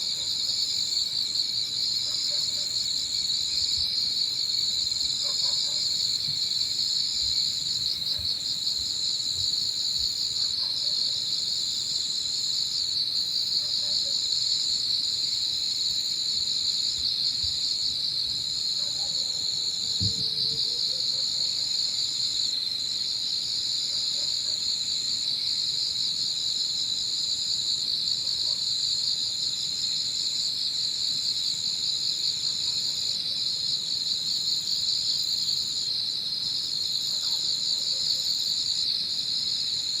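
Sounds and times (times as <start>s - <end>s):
high insect song: 0.0s - 40.0s.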